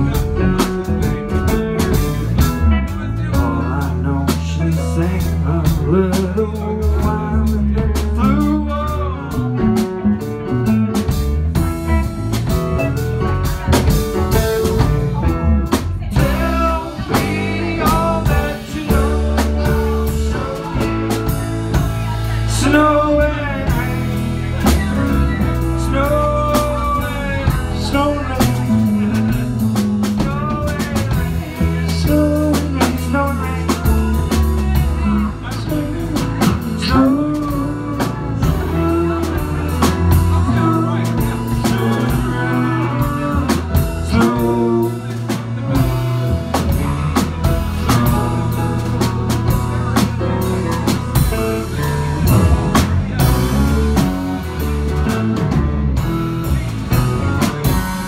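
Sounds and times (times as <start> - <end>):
person singing: 0.0 - 13.0, 13.6 - 58.0
bass guitar: 0.0 - 58.0
drum kit: 0.0 - 58.0
electric guitars: 0.0 - 58.0
keyboards: 0.0 - 58.0.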